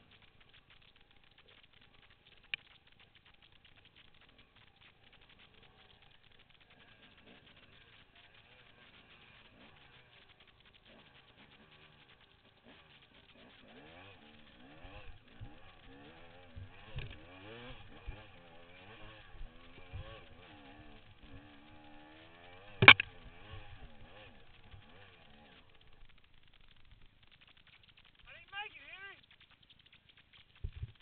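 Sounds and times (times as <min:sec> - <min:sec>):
dirt bike engine revving: 0:00.0 - 0:29.6.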